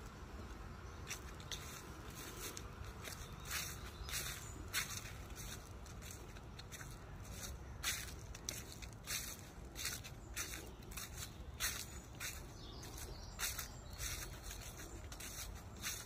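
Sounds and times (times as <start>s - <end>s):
footsteps crunching dry leaves: 0.0s - 16.0s
low steady rumble: 0.0s - 16.0s.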